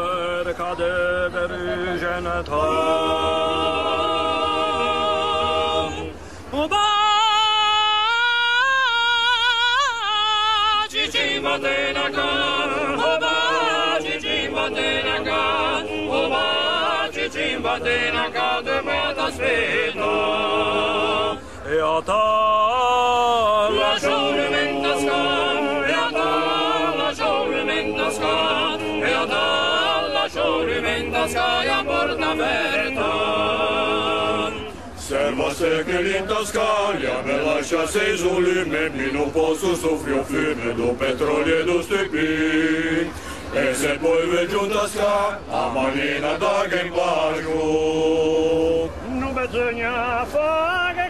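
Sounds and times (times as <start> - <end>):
male a cappella harmony singing: 0.0 - 51.0.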